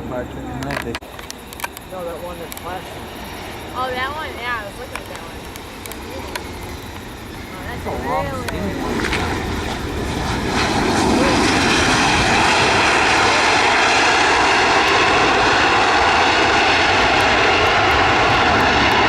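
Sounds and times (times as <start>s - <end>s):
aircraft engines rushing: 0.0s - 19.0s.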